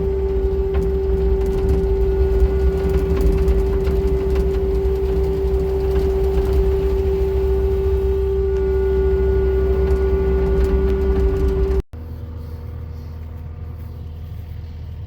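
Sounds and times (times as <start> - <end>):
low rumble: 0.0 - 15.0
steady mechanical hum: 0.0 - 15.0.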